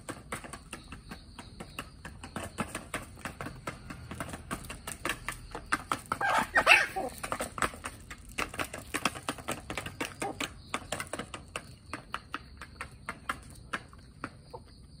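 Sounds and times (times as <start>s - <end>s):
chickens pecking: 0.0s - 15.0s.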